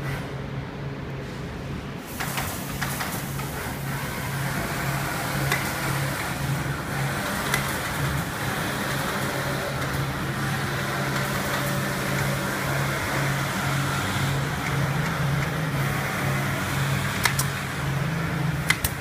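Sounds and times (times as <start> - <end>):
low machinery hum: 0.0 - 19.0
workshop din: 0.0 - 19.0.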